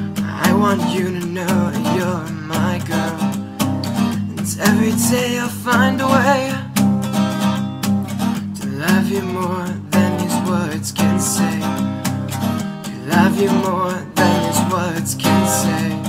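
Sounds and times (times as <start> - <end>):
song with strummed acoustic guitar: 0.0 - 16.0.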